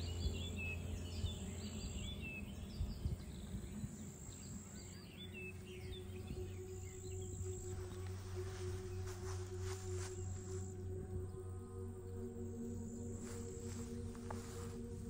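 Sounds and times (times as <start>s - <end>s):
small birds chirping: 0.0s - 15.0s
soft steady tone: 0.0s - 15.0s
steady low hum: 0.0s - 15.0s.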